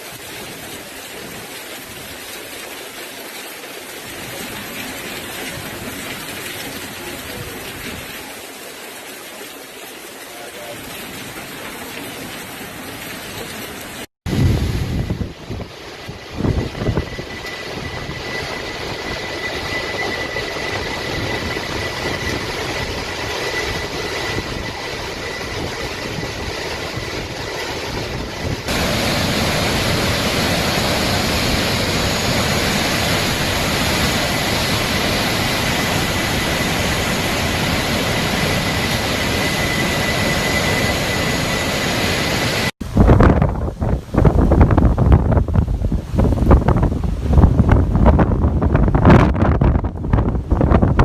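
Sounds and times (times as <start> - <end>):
hurricane wind roaring: 0.0 - 51.0.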